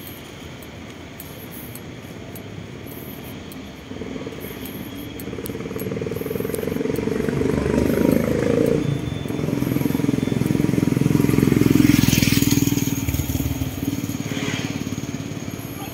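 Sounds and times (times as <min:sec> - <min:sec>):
traffic noise: 0:00.0 - 0:15.9
vehicle engine hum approaching: 0:02.6 - 0:15.9.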